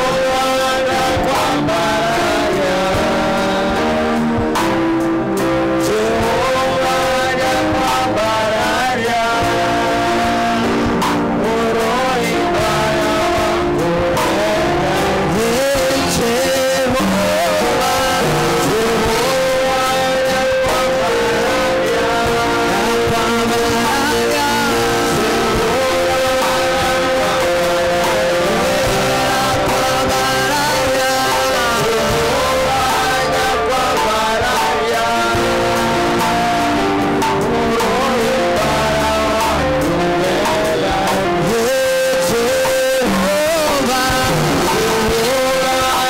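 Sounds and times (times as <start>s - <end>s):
group singing into microphones: 0.0s - 46.0s
instrumental backing: 0.0s - 46.0s.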